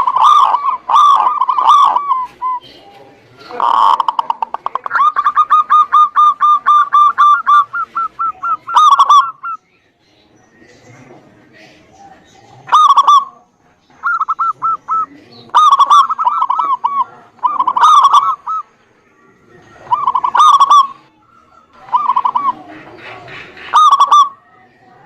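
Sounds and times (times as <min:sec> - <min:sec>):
dove cooing: 0:00.0 - 0:09.6, 0:11.8 - 0:25.0.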